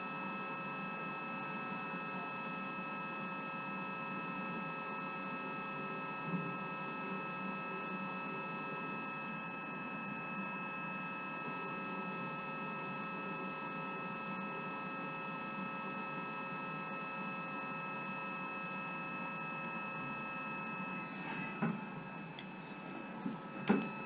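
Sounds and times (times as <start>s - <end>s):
high electrical whine: 0.0s - 24.0s
low electrical hum: 4.4s - 24.0s.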